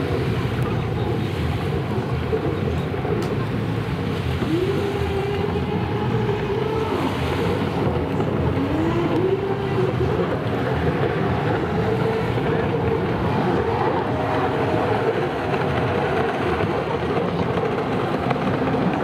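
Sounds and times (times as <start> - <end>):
jet ski engines running hard: 0.0 - 19.0
water noise: 0.0 - 19.0.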